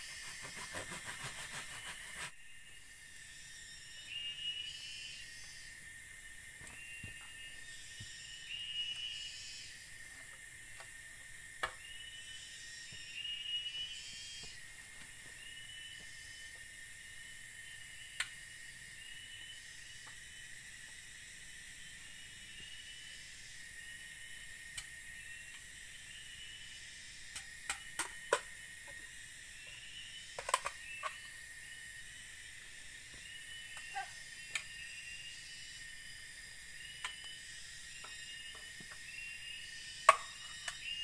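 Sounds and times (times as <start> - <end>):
rainforest insects droning: 0.0 - 41.0.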